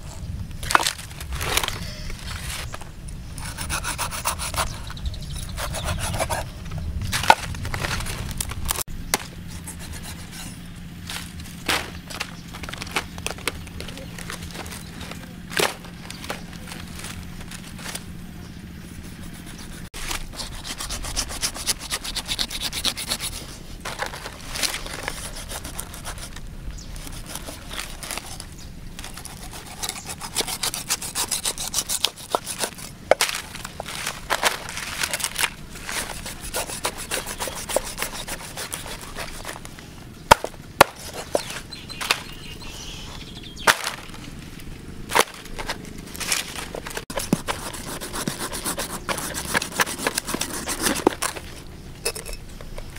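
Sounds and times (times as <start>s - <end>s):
cleaver scraping fish skin: 0.7s - 8.7s, 9.5s - 18.1s, 18.8s - 42.4s, 45.1s - 51.7s.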